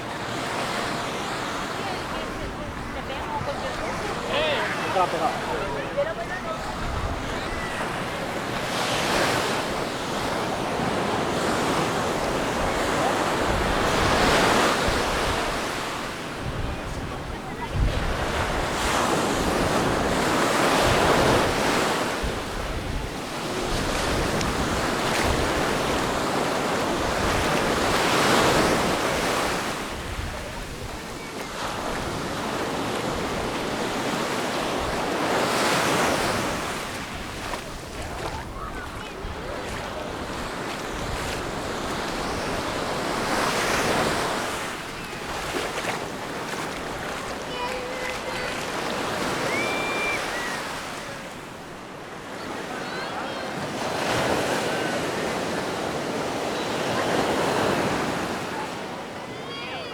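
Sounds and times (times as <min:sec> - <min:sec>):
sea waves breaking on a beach: 0:00.0 - 0:59.9.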